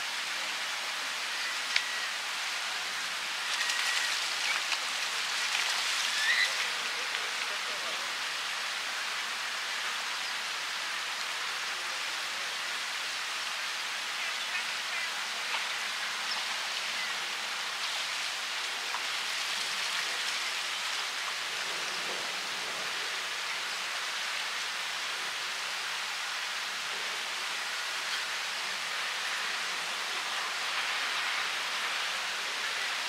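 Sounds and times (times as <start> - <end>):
river water hissing: 0.0 - 33.0.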